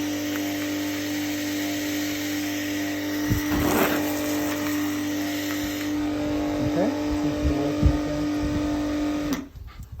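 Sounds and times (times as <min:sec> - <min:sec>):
pressure washer humming: 0:00.0 - 0:09.5.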